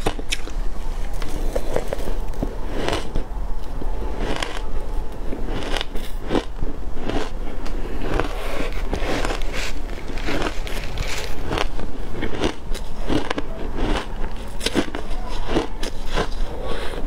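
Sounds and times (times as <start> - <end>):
ice crunching between teeth: 0.0 - 3.2, 4.1 - 4.7, 5.3 - 17.0.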